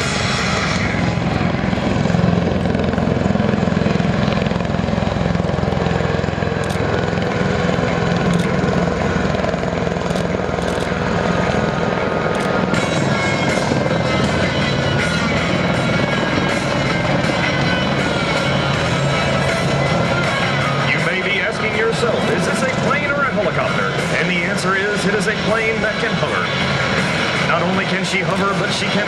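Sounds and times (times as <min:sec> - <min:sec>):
deep rotor and turbine rumble: 0:00.0 - 0:29.0.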